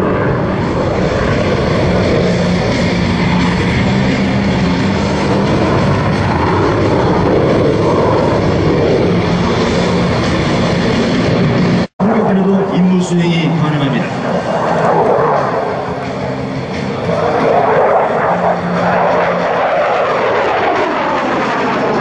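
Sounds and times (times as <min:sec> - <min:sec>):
jet engine roar: 0:00.0 - 0:22.0
low hum: 0:00.0 - 0:22.0.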